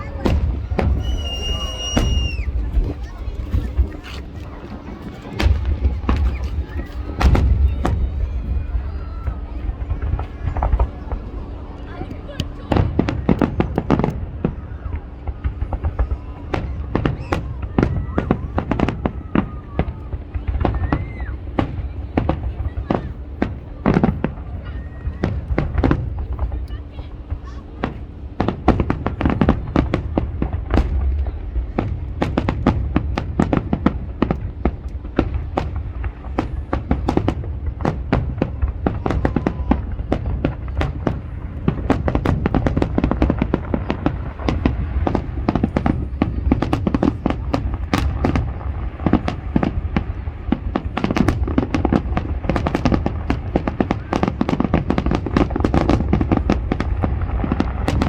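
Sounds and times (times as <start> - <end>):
low rumble of booms: 0.0 - 26.7, 27.3 - 58.0
fireworks bangs and crackles: 0.0 - 58.0.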